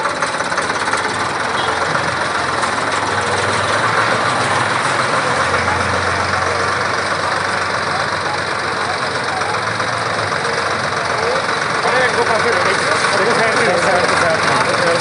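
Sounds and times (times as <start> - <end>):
tractor engines running: 0.0 - 15.0.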